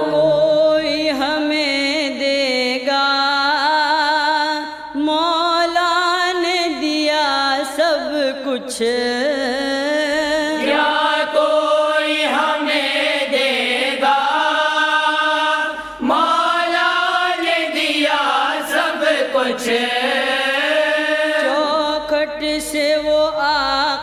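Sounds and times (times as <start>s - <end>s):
voices singing devotional song: 0.0s - 24.0s.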